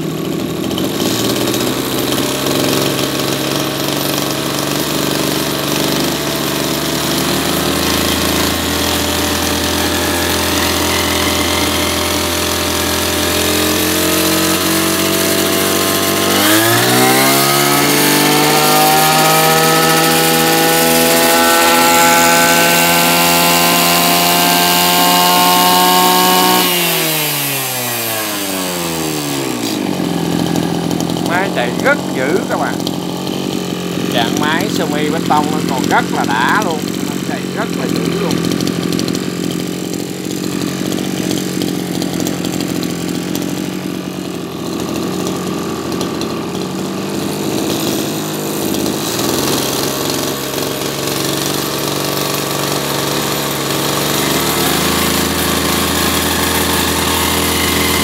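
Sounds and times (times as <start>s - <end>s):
brush cutter engine revving: 0.0s - 58.0s.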